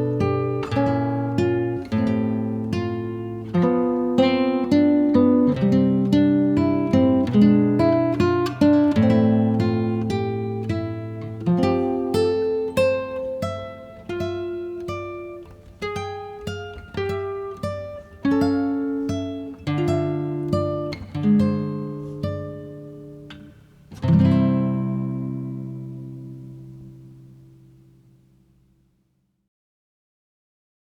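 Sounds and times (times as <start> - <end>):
acoustic guitar melody: 0.0 - 28.8.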